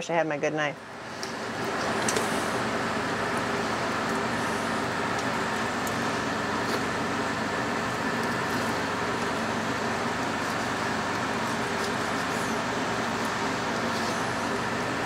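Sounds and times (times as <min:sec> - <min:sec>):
machine hum and hiss: 0:00.8 - 0:15.0.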